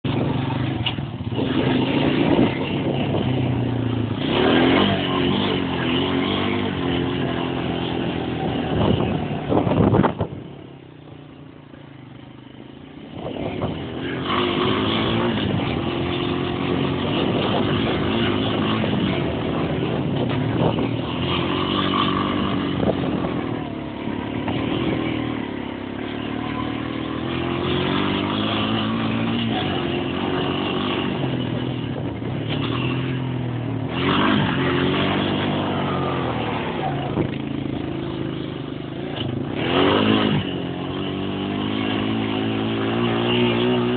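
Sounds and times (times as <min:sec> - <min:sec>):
quad bike engine revving: 0:00.0 - 0:10.8, 0:12.9 - 0:43.9.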